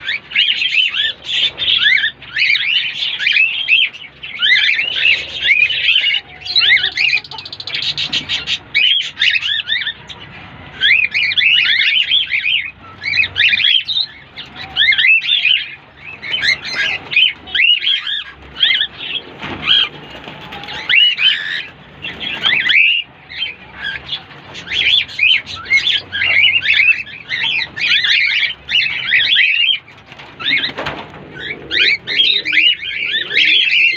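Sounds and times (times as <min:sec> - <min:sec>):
cockatiels chirping: 0:00.0 - 0:33.9.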